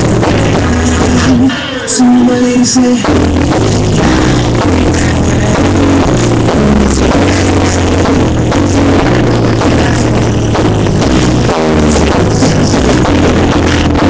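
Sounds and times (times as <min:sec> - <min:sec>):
electronic hip-hop music: 0:00.0 - 0:14.0.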